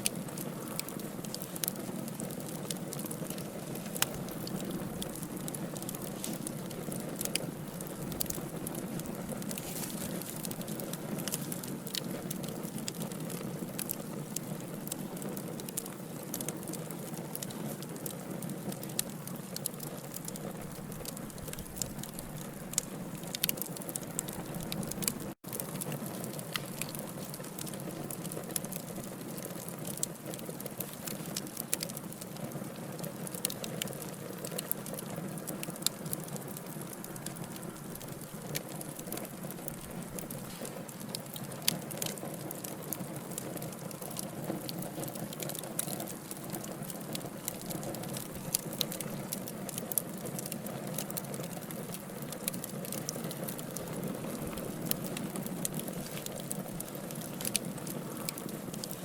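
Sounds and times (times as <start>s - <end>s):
fire crackles and pops: 0.0s - 59.0s
hiss of burning logs: 0.0s - 59.0s.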